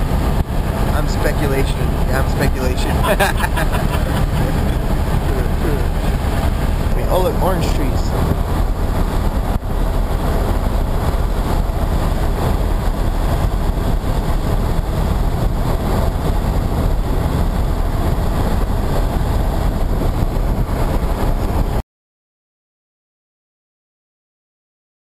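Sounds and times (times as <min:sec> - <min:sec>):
wind and road noise: 0:00.0 - 0:21.8
wind buffeting microphone: 0:00.0 - 0:21.8.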